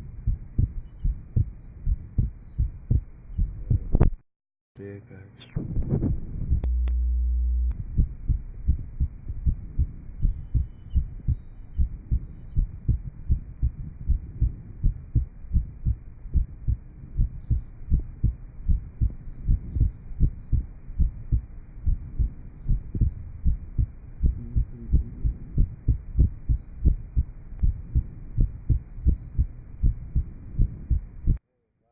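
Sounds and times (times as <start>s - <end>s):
steady low hum: 0.0s - 4.1s, 4.8s - 31.4s
heartbeat thumps: 0.0s - 4.2s, 5.5s - 31.4s.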